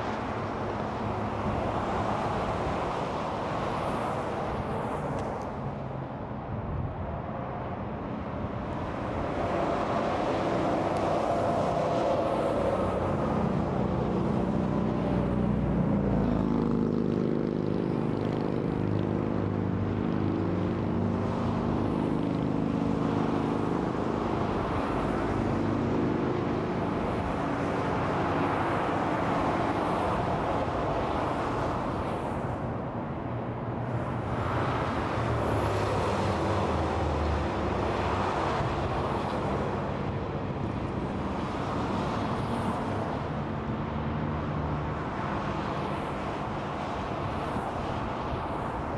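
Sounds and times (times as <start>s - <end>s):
freeway traffic: 0.0s - 48.9s.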